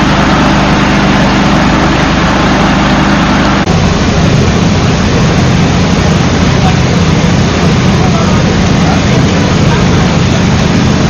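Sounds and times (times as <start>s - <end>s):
large engine running: 0.0s - 11.0s
loud rushing noise: 0.0s - 11.0s.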